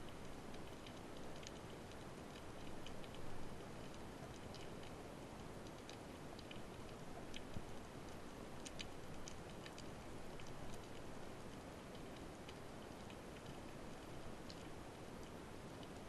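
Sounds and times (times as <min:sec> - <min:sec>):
sharp underwater clicks: 0:00.0 - 0:16.0
steady underwater hiss: 0:00.0 - 0:16.0.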